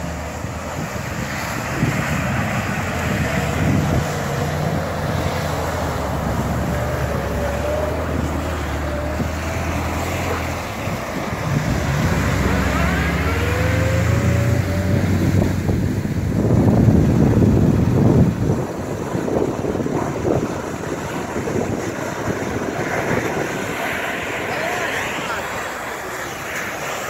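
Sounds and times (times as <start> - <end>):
pickup engine revving: 0.0 - 27.0
wind buffeting microphone: 0.0 - 27.0.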